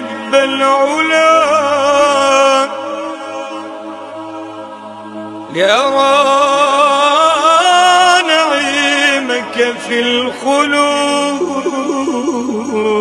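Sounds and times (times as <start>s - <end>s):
man singing devotional chant: 0.0s - 3.8s, 5.5s - 13.0s.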